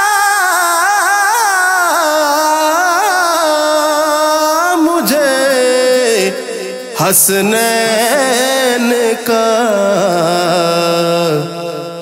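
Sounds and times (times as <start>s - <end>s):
man singing wordless melody: 0.0s - 12.0s.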